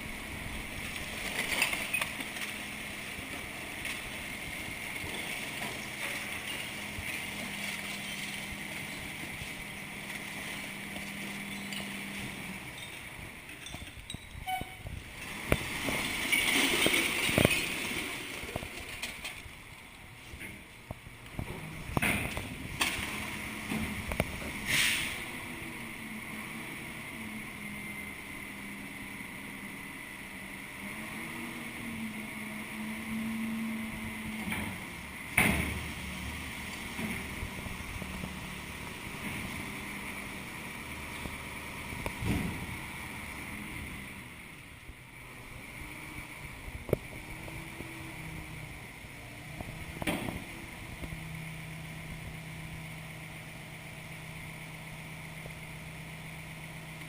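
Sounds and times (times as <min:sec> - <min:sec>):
garbage truck engine with whine: 0:00.0 - 0:57.0.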